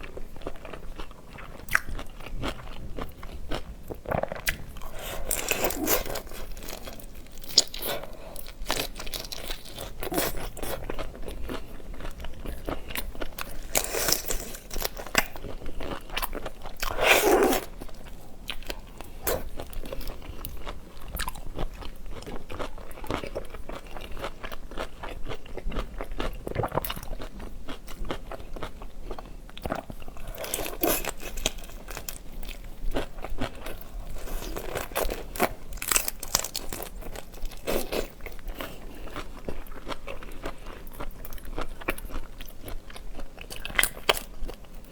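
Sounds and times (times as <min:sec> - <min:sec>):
crunching and chewing seafood: 0:00.0 - 0:44.9.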